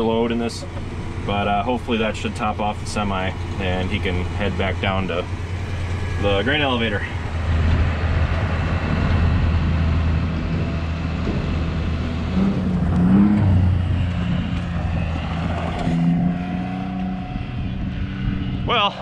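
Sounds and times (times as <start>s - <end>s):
tractor engine running: 0.0s - 16.1s.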